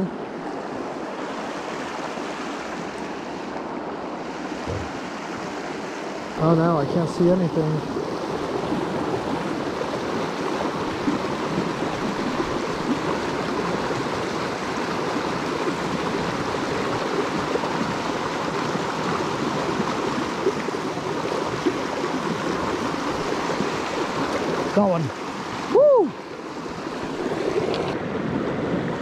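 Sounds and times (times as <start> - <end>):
creek rushing over rocks: 0.0 - 29.0.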